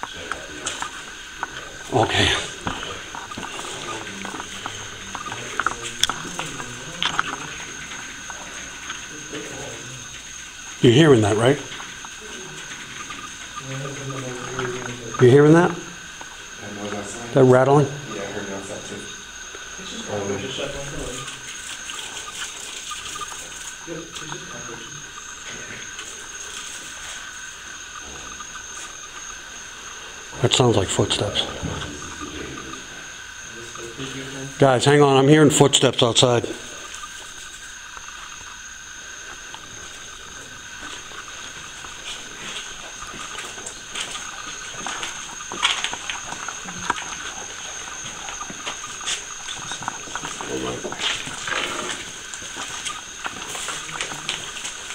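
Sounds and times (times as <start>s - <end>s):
faint rattling and tapping: 0.0s - 54.9s.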